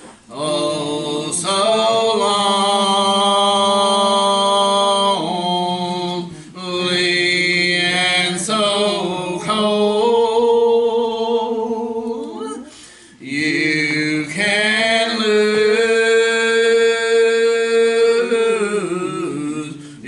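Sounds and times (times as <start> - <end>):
men singing gospel song: 0.3 - 12.5, 13.2 - 20.0.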